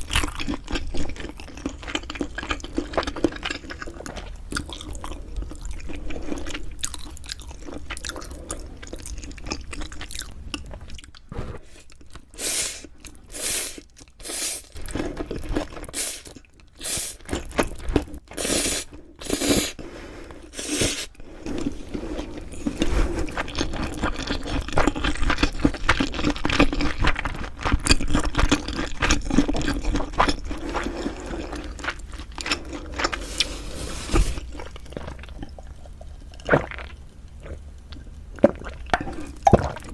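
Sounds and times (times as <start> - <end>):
continuous chewing: 0.0 - 33.7, 34.4 - 39.9.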